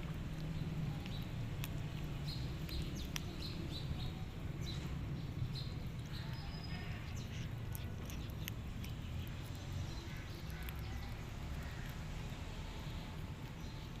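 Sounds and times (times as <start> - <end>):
kittens chewing: 0.0 - 14.0
low background rumble: 0.0 - 14.0.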